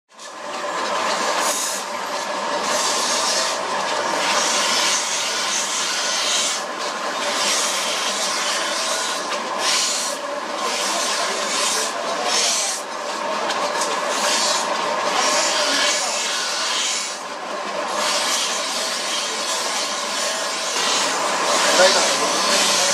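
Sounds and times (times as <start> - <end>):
grinding wheel whirring: 0.1 - 22.9.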